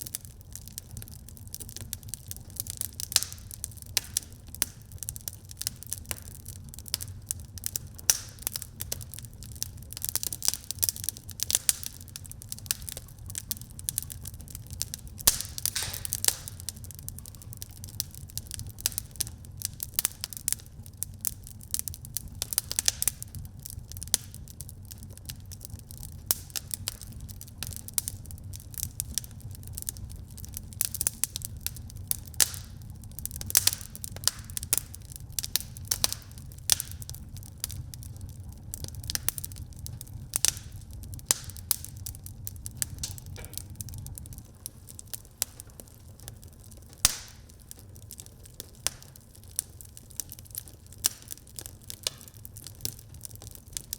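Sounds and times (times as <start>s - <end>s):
logs crackling and popping: 0.0s - 53.9s
low rumble of flames: 0.0s - 53.9s.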